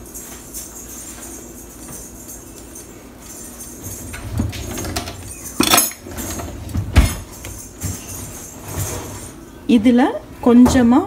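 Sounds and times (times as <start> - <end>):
kitchen utensils knocking and clinking: 0.0 - 11.0.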